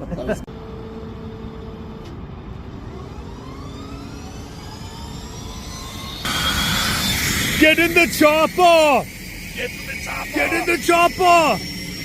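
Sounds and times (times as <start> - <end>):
helicopter turbine whine rising: 0.6 - 12.0.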